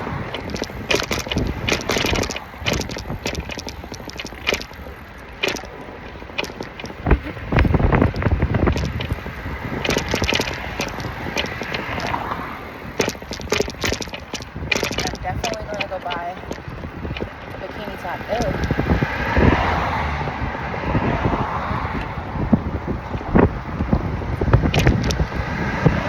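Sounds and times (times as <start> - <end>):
bicycle road noise: 0.0 - 26.0.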